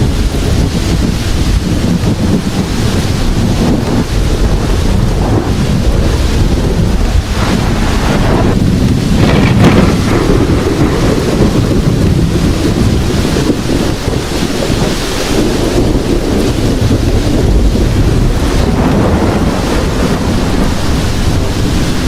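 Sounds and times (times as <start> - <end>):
deep low rumble: 0.0 - 22.0
heavy rain falling: 0.0 - 22.0.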